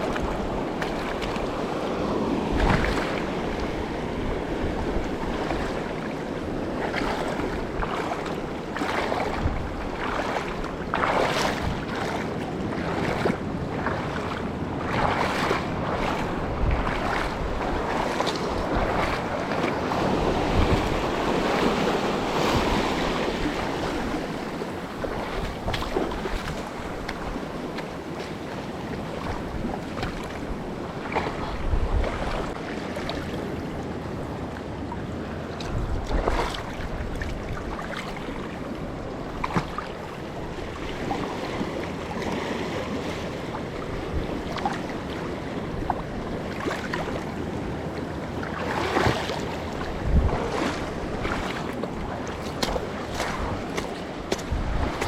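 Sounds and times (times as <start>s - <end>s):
wind buffeting microphone: 0.0s - 32.7s, 33.3s - 42.2s, 43.6s - 48.2s, 48.8s - 55.0s
knocks and splashes: 0.0s - 33.4s, 35.6s - 40.0s, 43.6s - 47.4s, 48.4s - 55.0s
sea water against boat: 0.0s - 55.0s.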